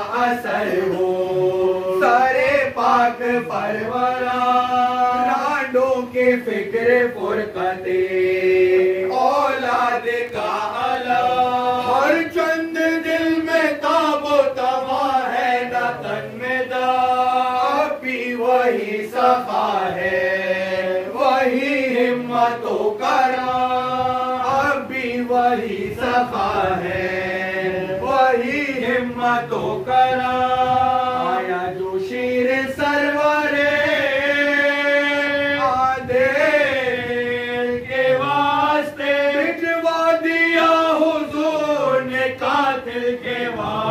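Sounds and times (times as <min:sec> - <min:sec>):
men chanting: 0:00.0 - 0:43.9.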